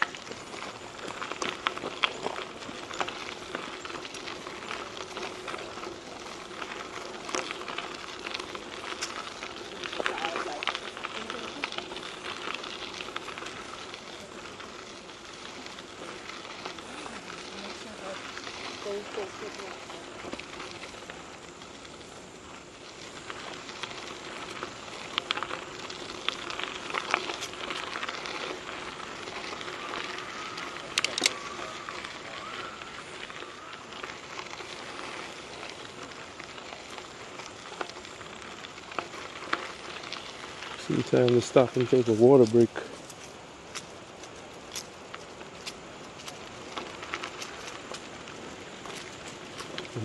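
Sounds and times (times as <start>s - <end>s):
bike tyres crunching on gravel: 0.0s - 50.0s
stones popping under wheels: 0.0s - 50.0s.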